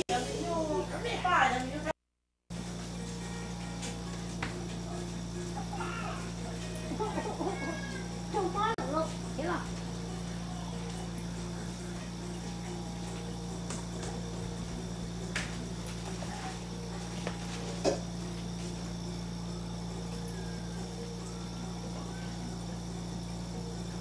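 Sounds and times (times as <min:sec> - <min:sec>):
low hum and hiss: 0:00.0 - 0:24.0.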